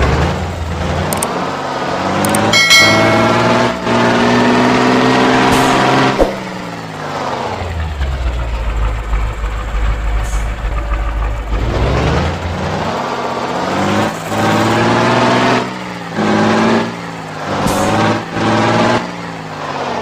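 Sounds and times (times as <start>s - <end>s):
truck engine revving and idling: 0.0s - 2.6s, 3.4s - 20.0s.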